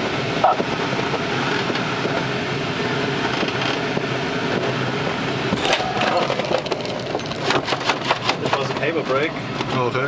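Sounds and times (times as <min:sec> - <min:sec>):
airflow rushing in cockpit: 0:00.0 - 0:10.0.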